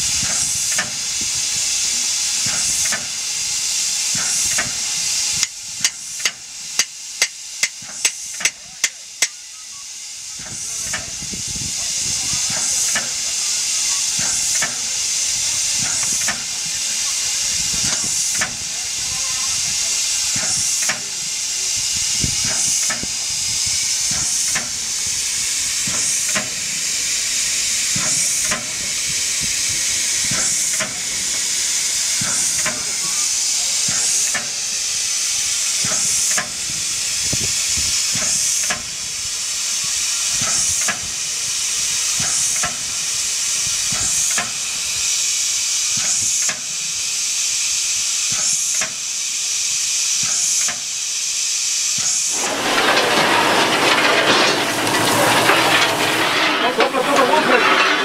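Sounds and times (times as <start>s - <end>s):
steam locomotive hissing steam: 0.0s - 58.0s.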